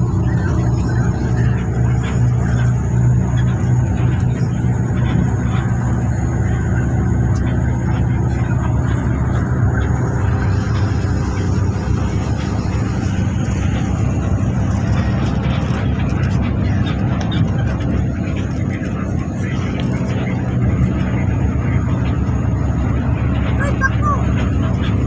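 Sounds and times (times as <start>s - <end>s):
bus engine hum: 0.0s - 25.0s
road noise: 0.0s - 25.0s.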